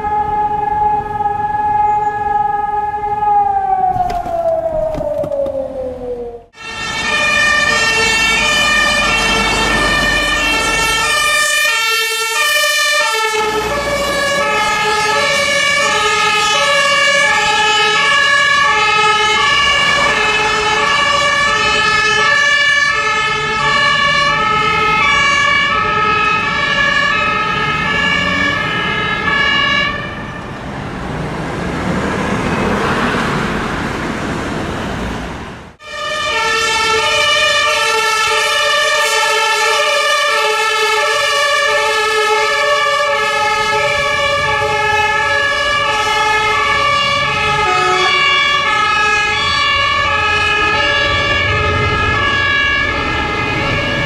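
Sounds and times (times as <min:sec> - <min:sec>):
two-tone sirens: 0:00.0 - 0:54.0
vehicle passing: 0:00.1 - 0:37.6, 0:41.1 - 0:54.0.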